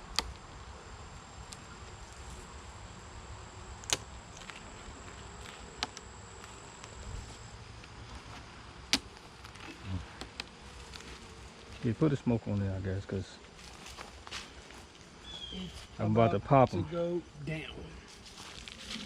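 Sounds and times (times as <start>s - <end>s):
faint high-pitched whine: 0.0s - 19.0s.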